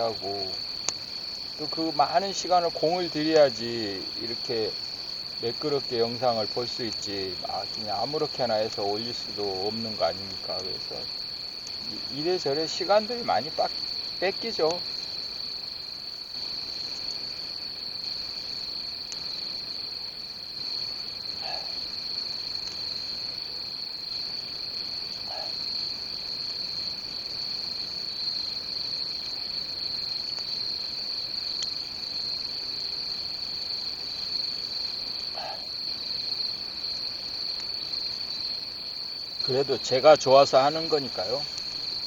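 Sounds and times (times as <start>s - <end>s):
crickets chirping: 0.0s - 42.0s.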